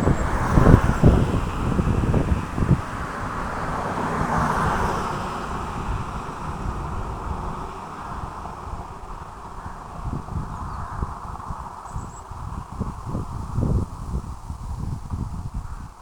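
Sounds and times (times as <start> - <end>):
distant vehicle drone: 0.0 - 14.8
wind buffeting microphone: 0.0 - 16.0.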